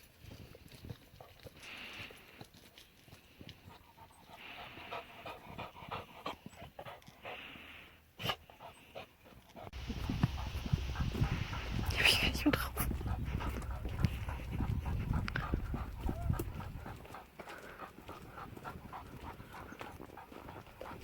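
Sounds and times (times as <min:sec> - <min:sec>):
dog panting: 0:03.7 - 0:21.0.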